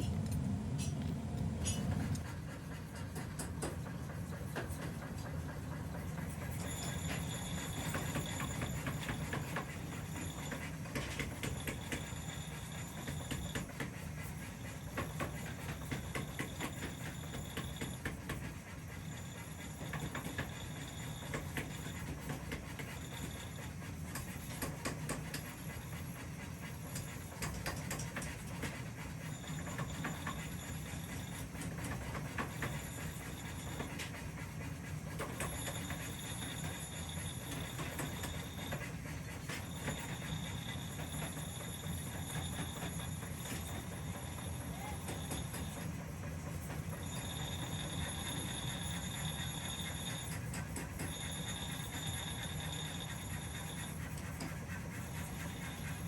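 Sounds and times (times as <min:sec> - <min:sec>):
workshop machinery humming: 0:00.0 - 0:56.0.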